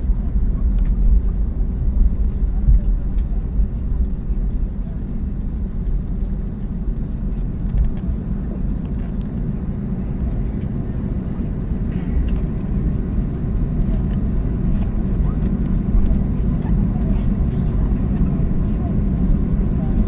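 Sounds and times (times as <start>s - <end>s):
aircraft cabin low rumble: 0.0s - 20.0s.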